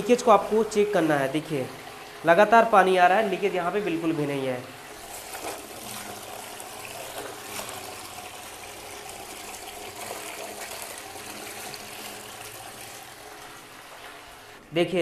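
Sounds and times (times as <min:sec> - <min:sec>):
water trickling into toilet bowl: 0:00.0 - 0:03.8, 0:04.7 - 0:14.7.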